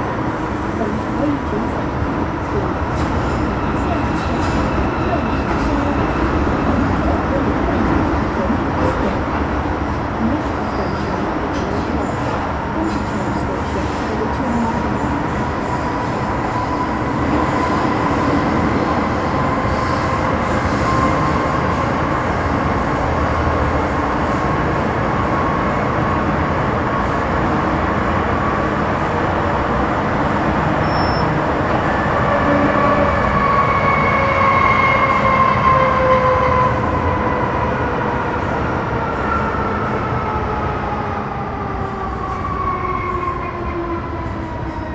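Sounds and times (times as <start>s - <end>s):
train wheel and track noise: 0.0s - 44.9s.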